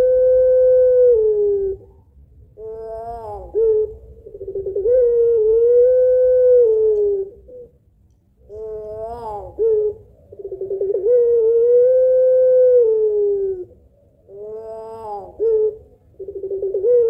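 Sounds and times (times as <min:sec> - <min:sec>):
dove cooing: 0:00.0 - 0:07.8, 0:08.4 - 0:17.0.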